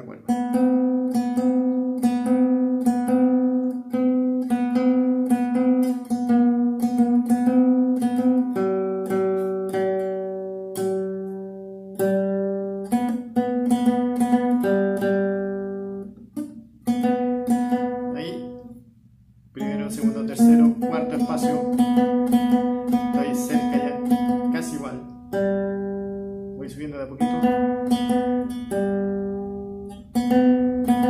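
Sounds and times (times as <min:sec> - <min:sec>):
guitar strings plucked: 0:00.0 - 0:31.0.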